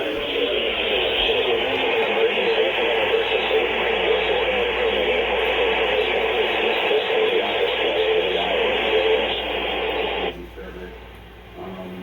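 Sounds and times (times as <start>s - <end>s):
radio static hiss: 0.0s - 11.0s
faint indistinct radio audio: 0.0s - 12.0s.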